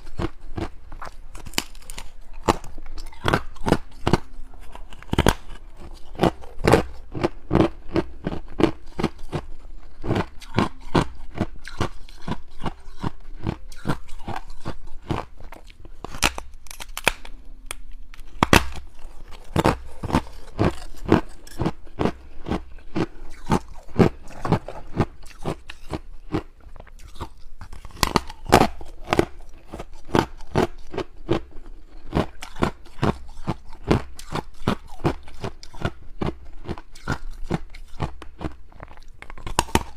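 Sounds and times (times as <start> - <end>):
ice crunching being chewed: 0.0 - 17.3, 18.2 - 39.9.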